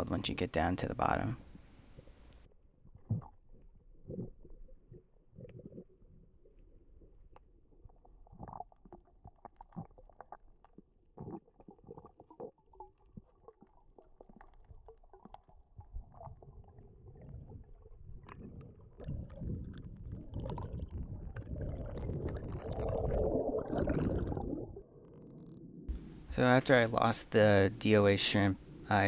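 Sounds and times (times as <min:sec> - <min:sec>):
faint underwater clicks and crackles: 0:00.9 - 0:27.0.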